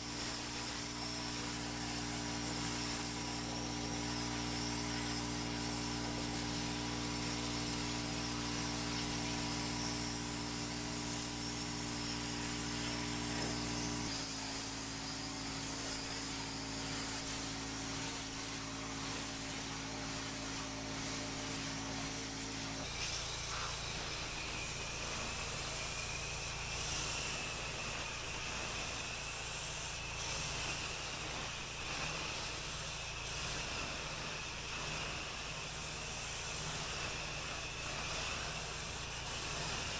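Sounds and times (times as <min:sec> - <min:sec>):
pressure washer motor hum: 0:00.0 - 0:39.9
water spray hissing: 0:00.0 - 0:39.9.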